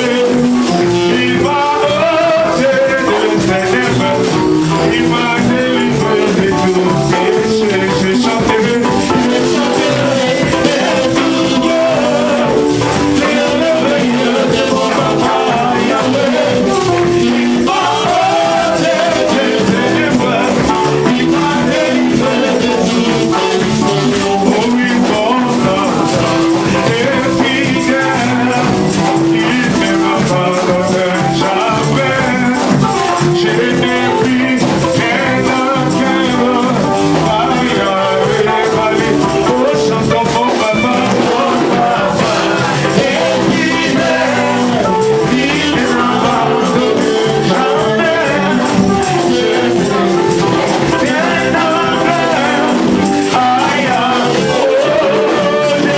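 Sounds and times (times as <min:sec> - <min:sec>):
shaker percussion: 0:00.0 - 0:55.9
worship music with singing: 0:00.0 - 0:55.9.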